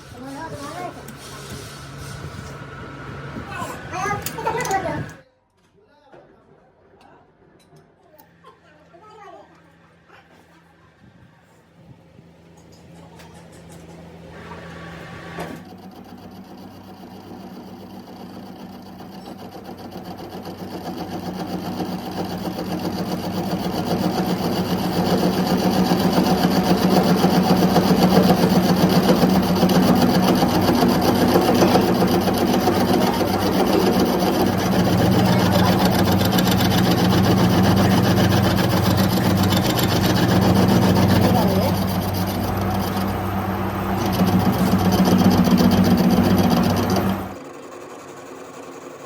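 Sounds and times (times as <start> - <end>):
workshop machine humming and rasping: 0.0 - 5.2, 9.6 - 49.0.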